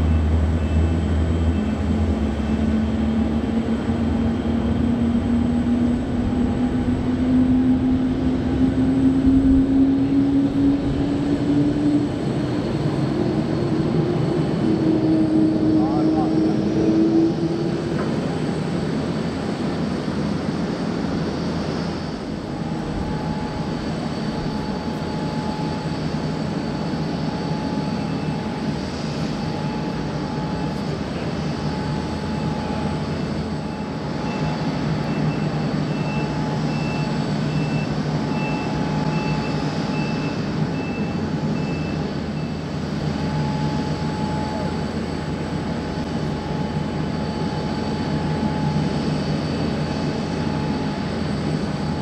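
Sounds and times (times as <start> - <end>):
jet engines idling: 0.0 - 52.0.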